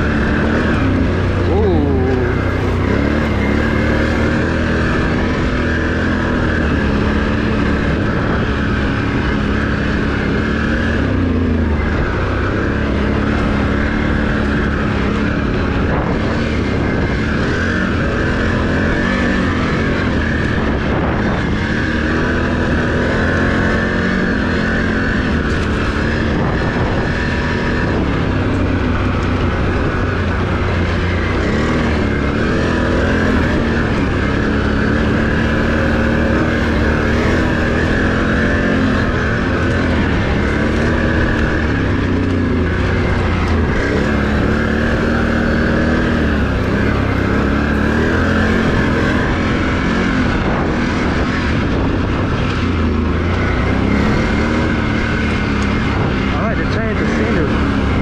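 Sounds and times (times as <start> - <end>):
atv engine running: 0.0 - 58.0
rushing wind noise: 0.0 - 58.0.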